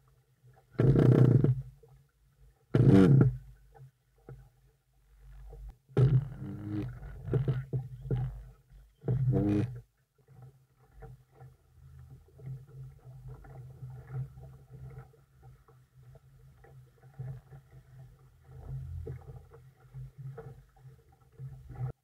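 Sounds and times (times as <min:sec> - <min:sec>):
choppy water lapping: 0:00.0 - 0:22.0.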